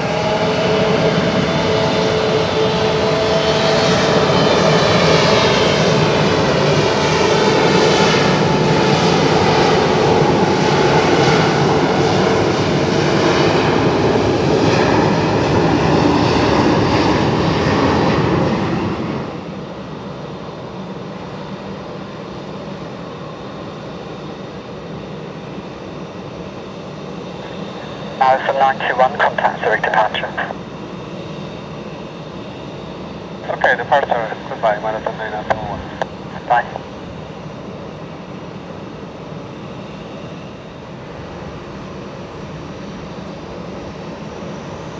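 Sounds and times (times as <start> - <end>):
jet engines at takeoff: 0.0 - 44.9.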